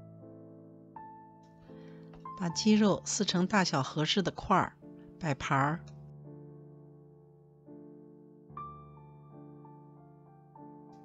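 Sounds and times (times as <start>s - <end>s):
soft slow piano music: 0.0s - 11.0s.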